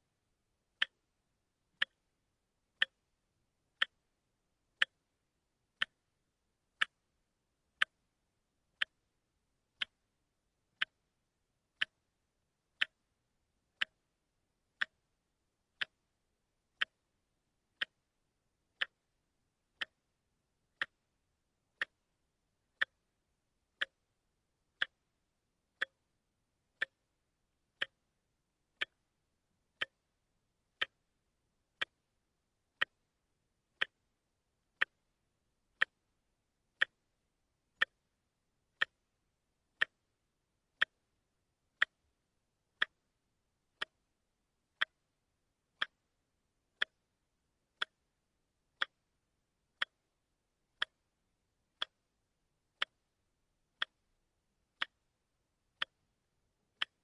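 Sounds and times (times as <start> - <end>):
wristwatch ticking: 0.6 - 1.1, 1.7 - 57.0.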